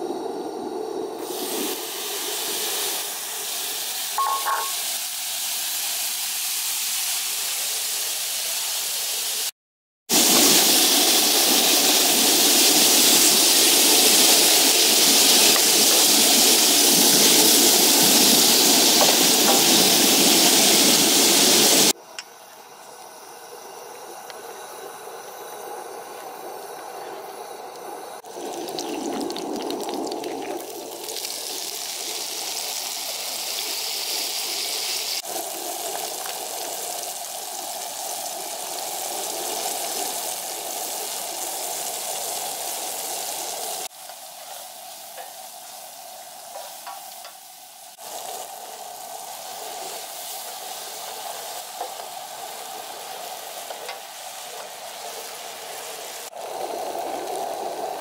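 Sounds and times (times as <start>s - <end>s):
vegetables sizzling in a frying pan: 1.2s - 9.5s, 10.1s - 22.0s, 30.6s - 58.0s.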